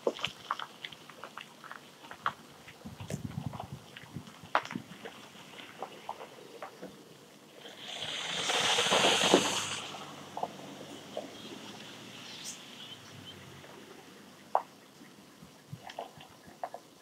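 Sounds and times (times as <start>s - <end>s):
truck tyres on dirt road: 0.0s - 17.0s.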